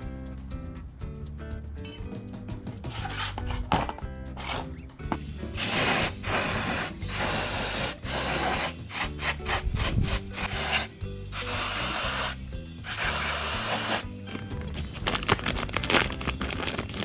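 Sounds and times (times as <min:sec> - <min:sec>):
background music: 0:00.0 - 0:17.0
rough scraping strokes: 0:02.8 - 0:17.0.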